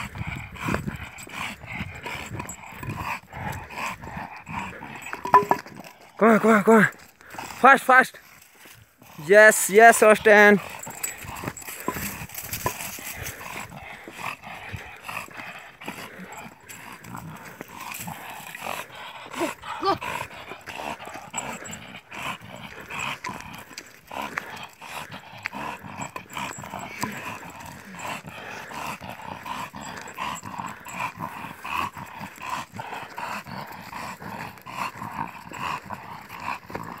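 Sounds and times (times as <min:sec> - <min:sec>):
dog growling: 0:00.0 - 0:07.6, 0:09.0 - 0:37.0.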